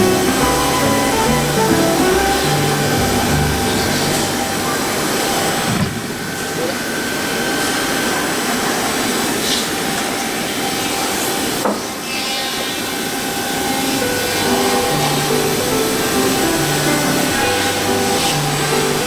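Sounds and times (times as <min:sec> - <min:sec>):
milling machine cutting wood: 0:00.0 - 0:19.0.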